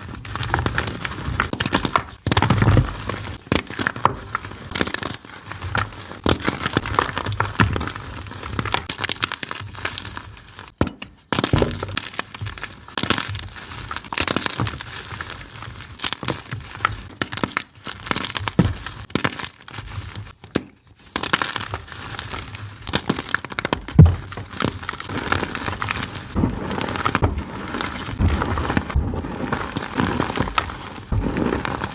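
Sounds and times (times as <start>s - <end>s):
chalk crunching and crackling: 0.0s - 11.4s, 12.0s - 31.9s.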